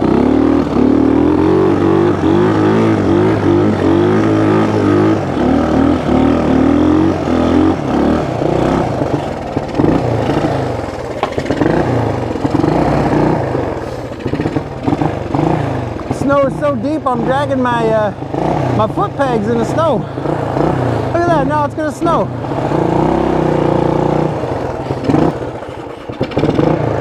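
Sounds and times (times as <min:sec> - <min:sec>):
motorcycle engine revving under load: 0:00.0 - 0:27.0.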